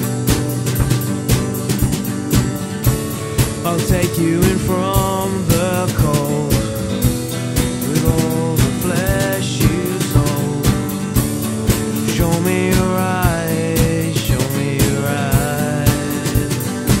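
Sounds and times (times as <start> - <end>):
drum kit with cymbals: 0.0 - 17.0
strummed acoustic guitar: 0.0 - 17.0.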